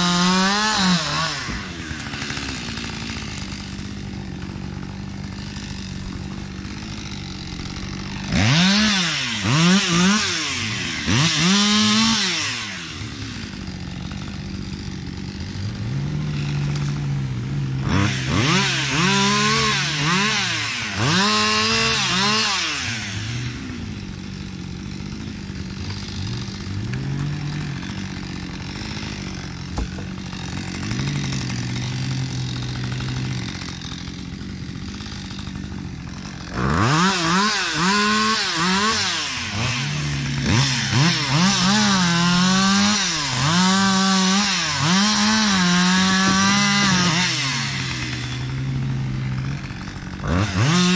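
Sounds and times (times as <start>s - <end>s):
chainsaw idling and revving: 0.0s - 50.9s.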